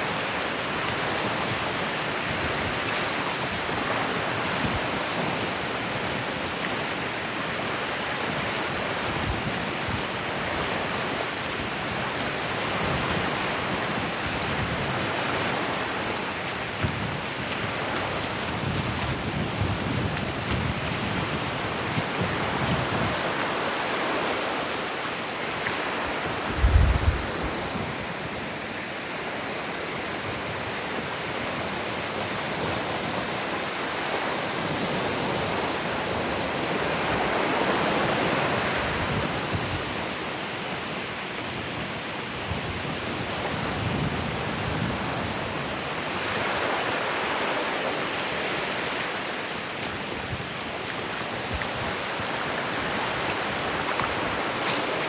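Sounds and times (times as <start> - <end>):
ocean surf on sandy beach: 0.0 - 55.0.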